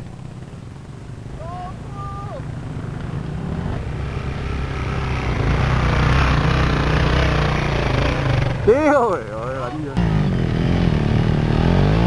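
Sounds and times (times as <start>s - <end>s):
dirt bike engine passing: 0.0s - 12.0s.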